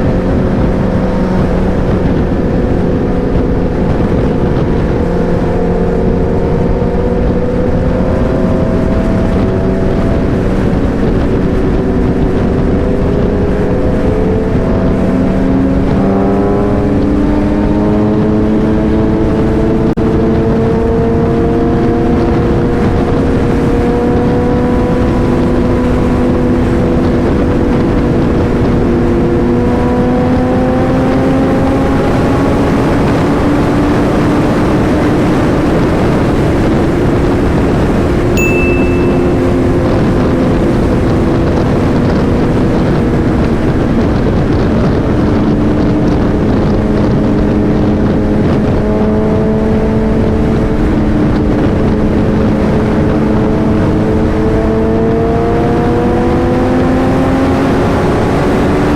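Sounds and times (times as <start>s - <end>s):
motorcycle engine accelerating: 0.0s - 58.9s
wind rush on microphone: 0.0s - 58.9s.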